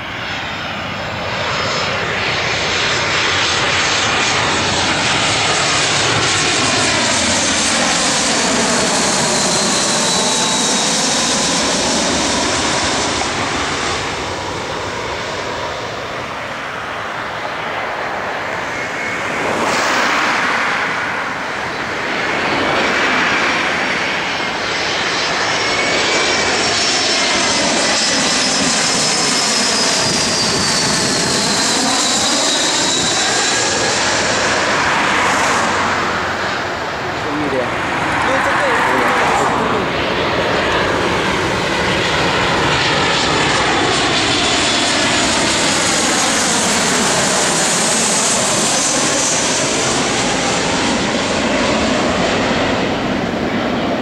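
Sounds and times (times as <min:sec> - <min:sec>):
jet airliners passing overhead: 0:00.0 - 0:54.0.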